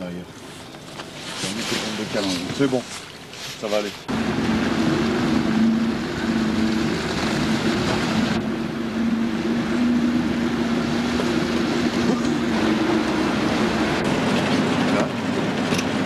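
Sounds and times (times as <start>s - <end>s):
motorboat engine humming: 0.0s - 16.0s
rush of water noise: 1.1s - 16.0s.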